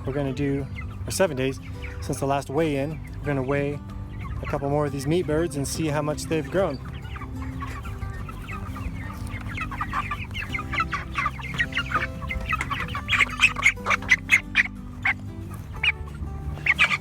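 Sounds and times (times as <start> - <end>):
chickens clucking and calling: 0.0 - 17.0.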